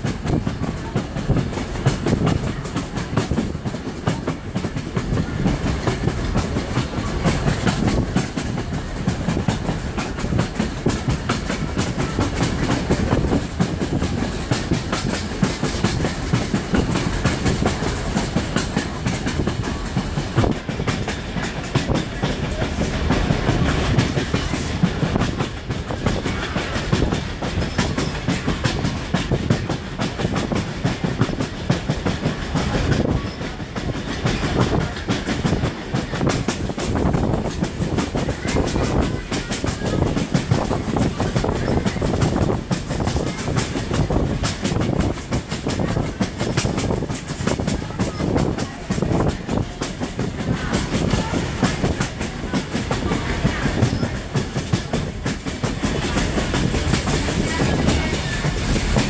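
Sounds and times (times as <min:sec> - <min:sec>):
rapid clicking and rattling: 0:00.0 - 0:59.0
train wheels rumbling on rails: 0:00.0 - 0:59.0.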